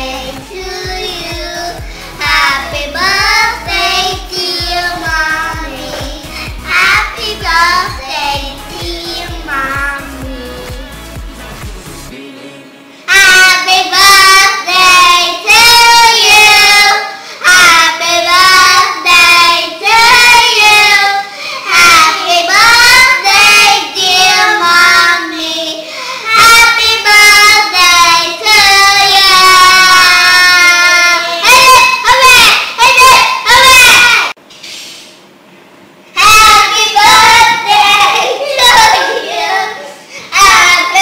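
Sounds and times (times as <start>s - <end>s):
girls singing: 0.0s - 11.0s, 12.1s - 32.4s, 36.2s - 41.0s.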